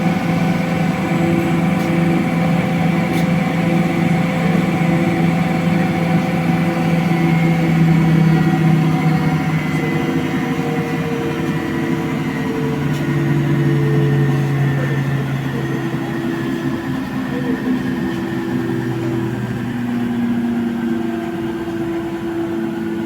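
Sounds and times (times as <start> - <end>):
washing machine spin whine: 0.0 - 23.0.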